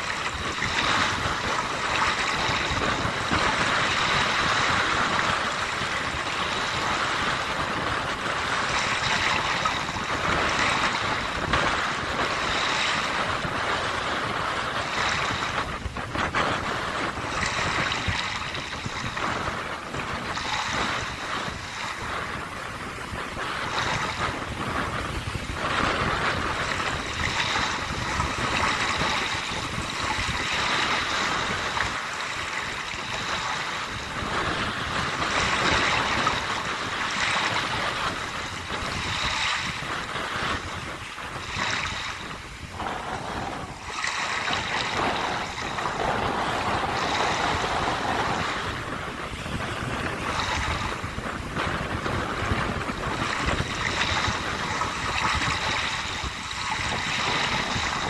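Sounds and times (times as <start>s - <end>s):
sea waves washing onto shore: 0.0s - 58.0s
wind blowing: 0.0s - 58.0s.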